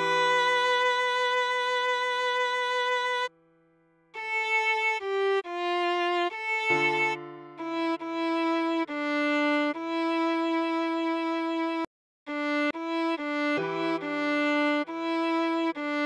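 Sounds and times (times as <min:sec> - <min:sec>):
viola playing slow melody: 0:00.0 - 0:03.3, 0:04.2 - 0:16.0.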